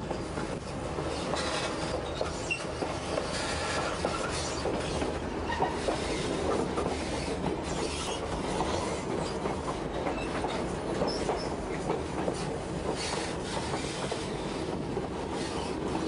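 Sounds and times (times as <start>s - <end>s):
rail joints clickety-clack: 0.0s - 16.0s
train wheels rumbling on rails: 0.0s - 16.0s.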